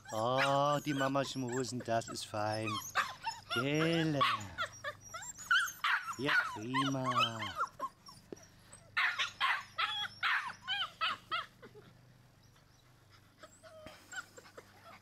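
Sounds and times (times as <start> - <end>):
puppy whining and yipping: 0.0 - 15.0.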